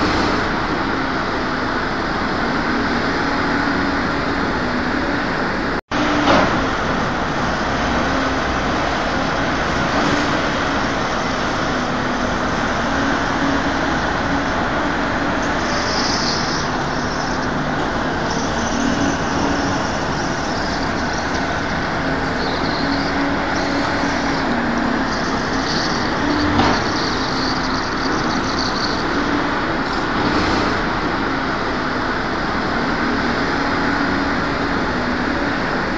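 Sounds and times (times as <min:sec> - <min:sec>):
steady engine noise: 0:00.0 - 0:35.9.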